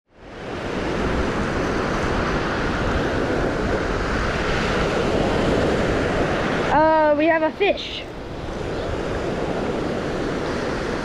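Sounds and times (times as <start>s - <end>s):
surf breaking on beach: 0.2s - 11.0s
wind buffeting microphone: 0.2s - 11.0s.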